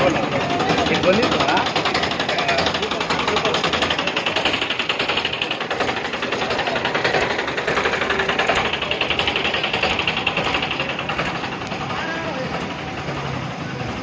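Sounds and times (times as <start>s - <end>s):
tractor diesel engine clatter: 0.0s - 14.0s.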